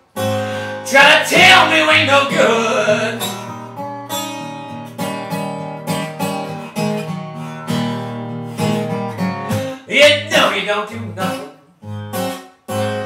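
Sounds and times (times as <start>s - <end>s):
acoustic guitar blues chords: 0.0s - 13.0s.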